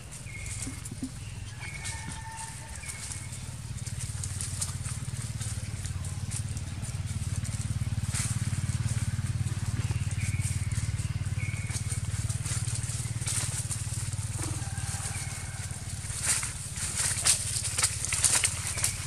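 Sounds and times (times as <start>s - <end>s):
engine droning hum: 0.0s - 19.0s.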